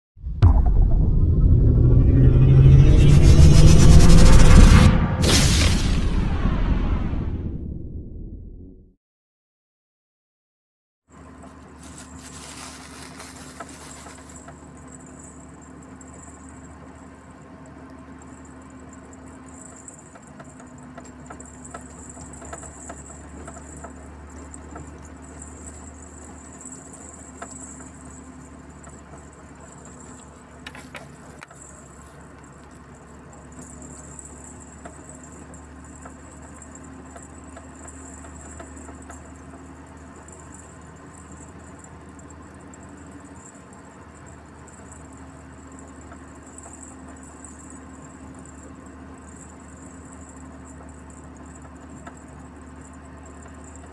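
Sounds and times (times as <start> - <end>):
vehicle engine and tyres droning: 0.2 - 7.4, 11.1 - 53.9.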